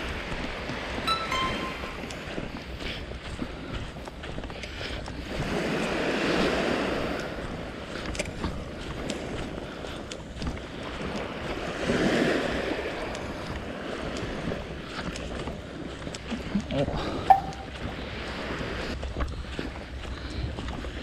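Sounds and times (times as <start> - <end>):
small waves breaking on beach: 0.0 - 1.5, 2.8 - 21.0
wind rumble on microphone: 2.1 - 21.0.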